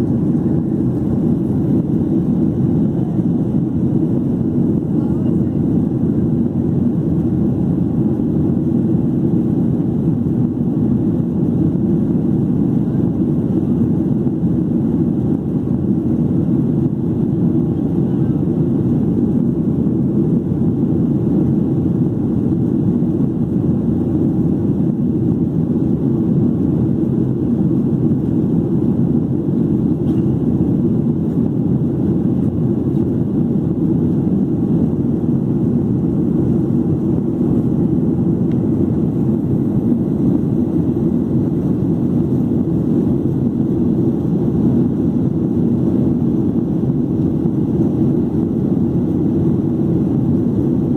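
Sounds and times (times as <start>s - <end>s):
airplane cabin engine drone: 0.0s - 50.9s
rushing airflow: 0.0s - 50.9s.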